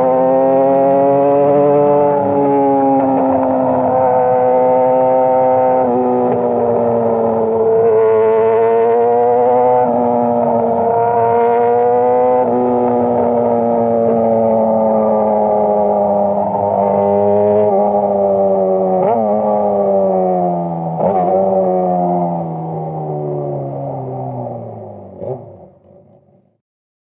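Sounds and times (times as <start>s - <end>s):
motorcycle engine at high revs: 0.0s - 25.6s.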